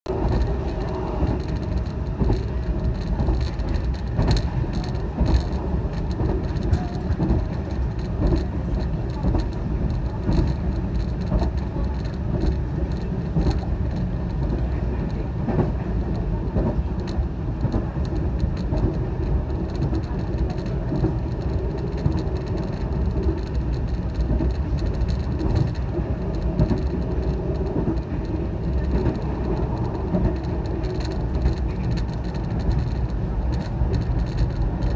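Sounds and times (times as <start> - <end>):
train clicks and knocks: 0.1 - 34.9
train wheels rumbling on rail: 0.1 - 34.9.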